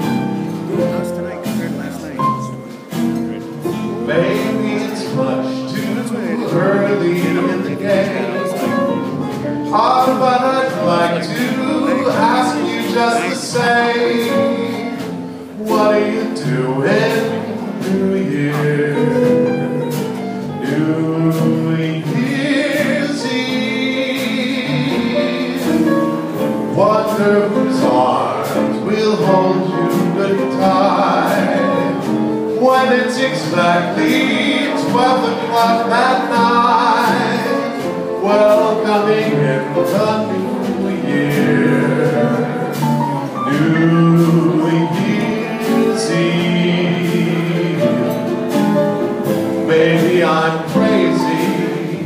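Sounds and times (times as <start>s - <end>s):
instrumental accompaniment: 0.0s - 52.0s
man singing: 0.6s - 19.8s, 20.5s - 52.0s.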